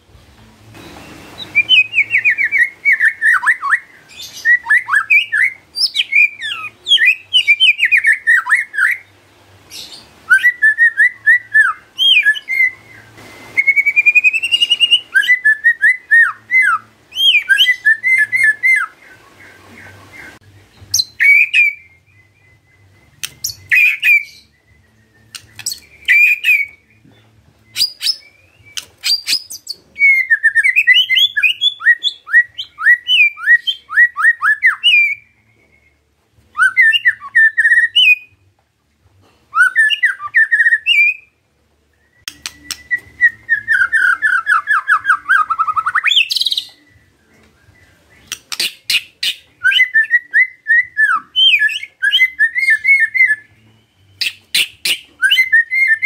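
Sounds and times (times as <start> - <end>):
songbird singing whistled phrases: 0.7 - 38.5, 39.5 - 56.0.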